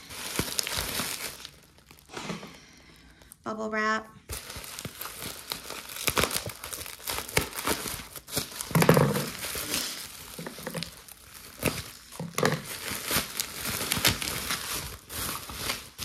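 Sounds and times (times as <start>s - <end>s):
bubble wrap crinkling: 0.0s - 3.4s, 4.2s - 16.0s.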